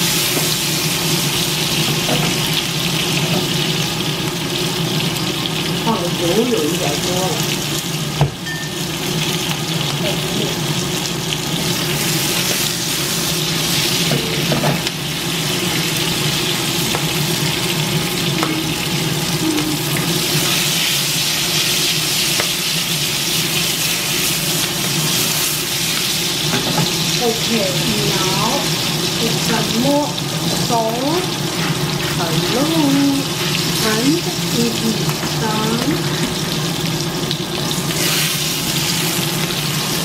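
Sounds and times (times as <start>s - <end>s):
peppers sizzling in hot oil: 0.0s - 40.0s.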